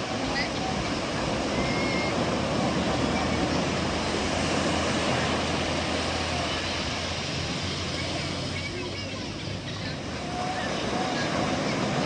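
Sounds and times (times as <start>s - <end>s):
sea surf rushing: 0.0s - 12.0s.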